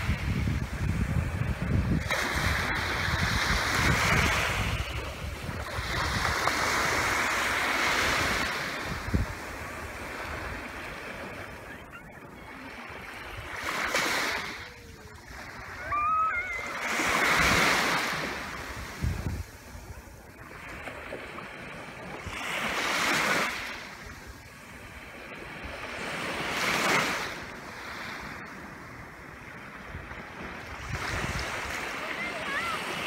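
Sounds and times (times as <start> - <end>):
small waves washing on sand: 0.0 - 33.0.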